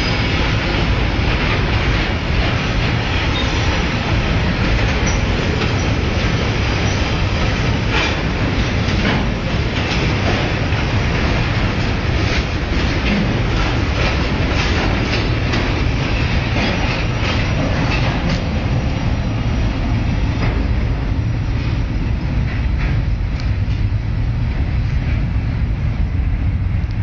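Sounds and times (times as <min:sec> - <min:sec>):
rail joint clicks: 0:00.0 - 0:27.0
train wheels rumbling on track: 0:00.0 - 0:27.0.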